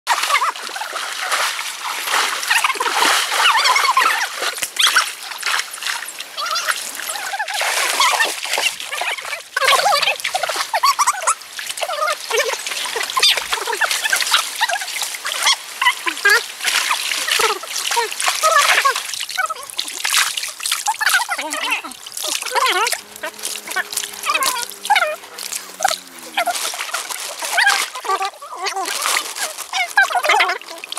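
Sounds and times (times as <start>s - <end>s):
water splashing: 0.1s - 30.9s.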